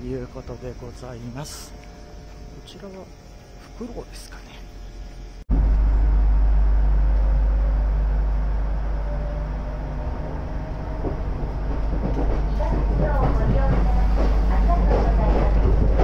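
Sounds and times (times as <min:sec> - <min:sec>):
electric train rumble: 0:00.0 - 0:16.0.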